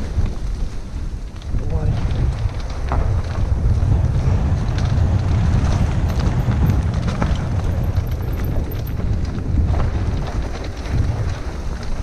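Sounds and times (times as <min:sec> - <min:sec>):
tyres on dirt and roots: 0:00.0 - 0:12.0
wind buffeting microphone: 0:00.0 - 0:12.0
bike knocks and rattles: 0:01.4 - 0:12.0.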